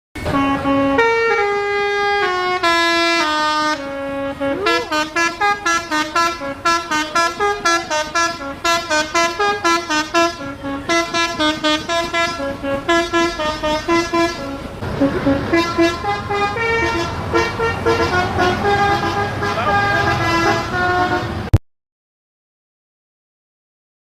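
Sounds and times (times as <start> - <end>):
truck melody horn playing a tune: 0.2 - 21.6.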